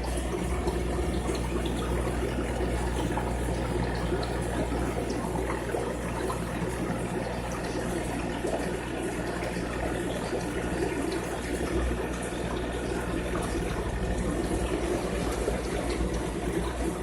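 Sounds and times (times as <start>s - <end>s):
aquarium water splashing: 0.0s - 17.0s.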